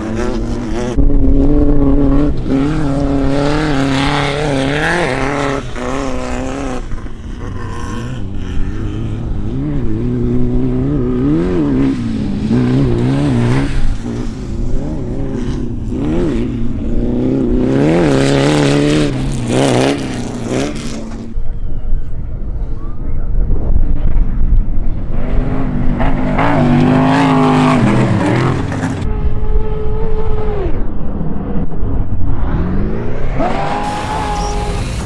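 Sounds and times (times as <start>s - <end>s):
race vehicle engine revving: 0.0s - 21.5s, 24.1s - 35.0s.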